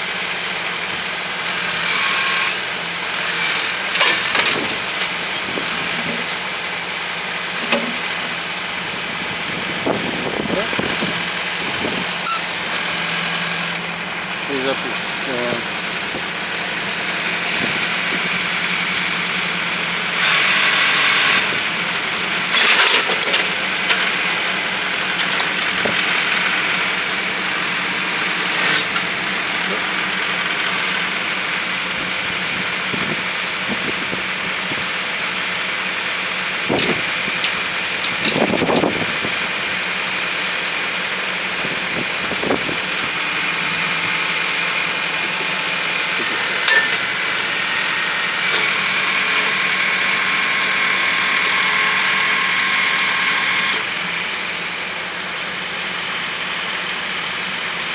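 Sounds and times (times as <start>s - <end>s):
backhoe working bursts: 0.0s - 57.9s
tractor engine running: 0.0s - 57.9s.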